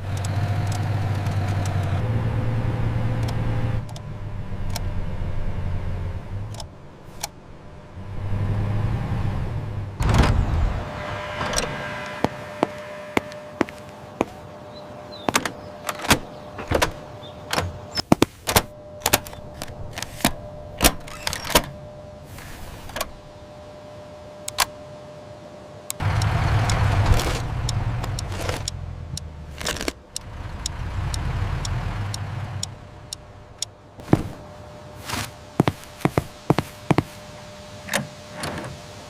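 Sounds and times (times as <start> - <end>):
vehicle engine running: 0.0 - 20.8, 26.0 - 37.6.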